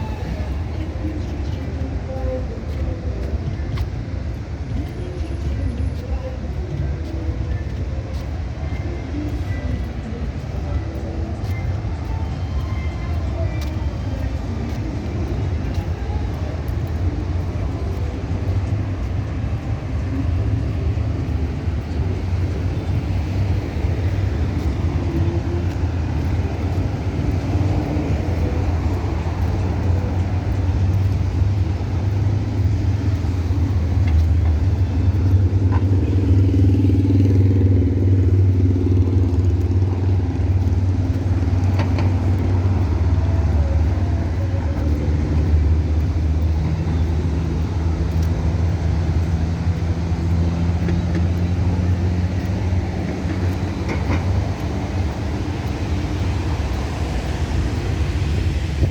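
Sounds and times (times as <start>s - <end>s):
road traffic rumble: 0.0s - 58.9s.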